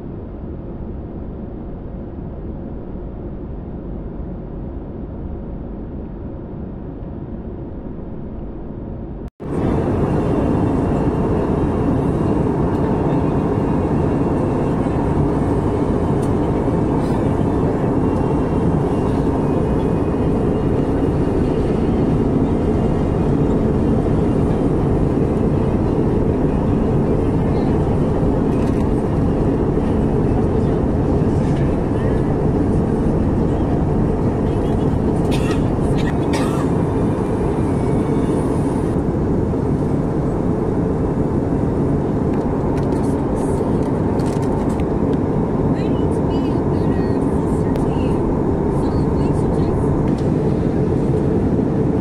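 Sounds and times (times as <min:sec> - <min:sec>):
jet airliner cabin noise: 0:00.0 - 0:52.0.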